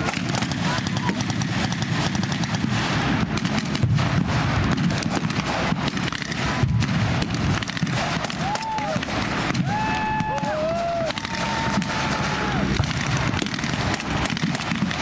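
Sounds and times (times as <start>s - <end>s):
blank gunfire volleys: 0.0s - 15.0s.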